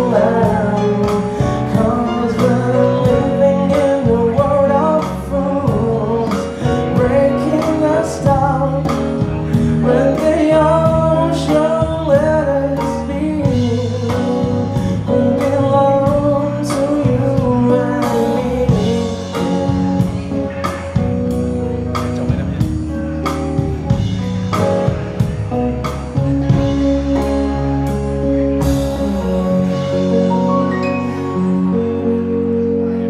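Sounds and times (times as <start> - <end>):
electric guitar: 0.0 - 33.0
keyboard: 0.0 - 33.0.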